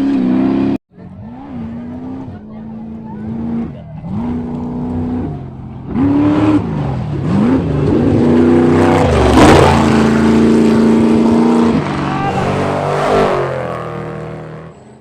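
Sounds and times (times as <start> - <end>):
race buggy engine revving: 0.0 - 15.0.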